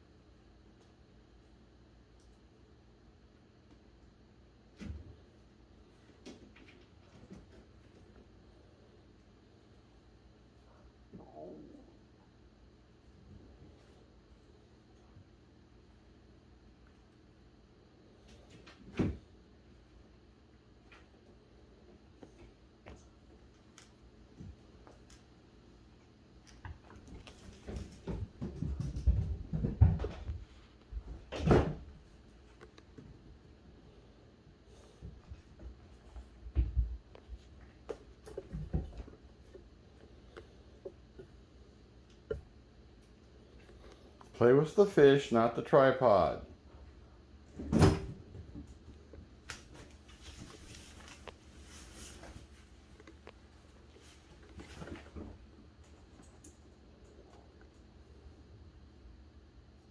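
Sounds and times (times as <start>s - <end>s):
cats tussling with toy on floor: 3.5s - 11.2s, 12.1s - 44.4s, 46.7s - 59.8s.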